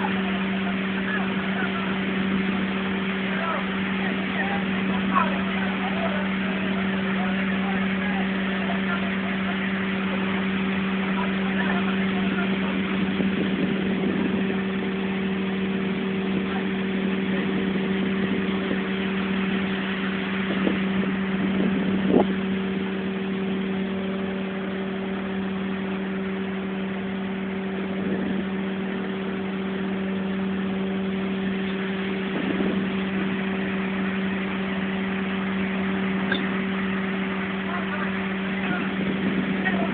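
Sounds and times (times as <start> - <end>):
boat engine drone: 0.0 - 39.9.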